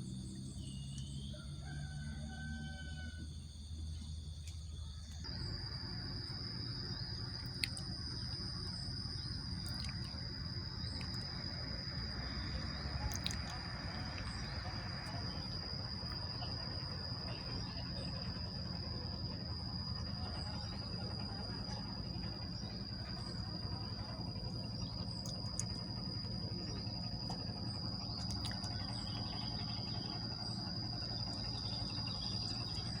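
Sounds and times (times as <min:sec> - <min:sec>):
insects trilling: 0:00.0 - 0:33.0
low background rumble: 0:00.0 - 0:33.0.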